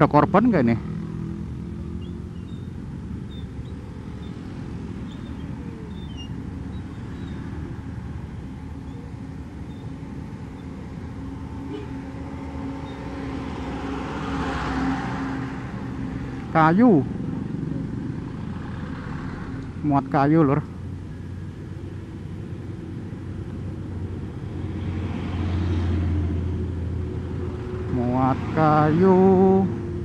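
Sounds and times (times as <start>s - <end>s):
traffic: 0.0s - 30.0s
truck passing: 0.0s - 30.0s.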